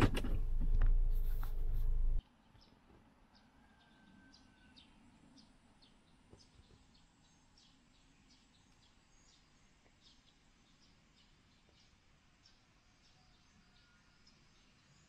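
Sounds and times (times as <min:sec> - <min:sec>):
faint bird chirps: 0:02.4 - 0:15.0.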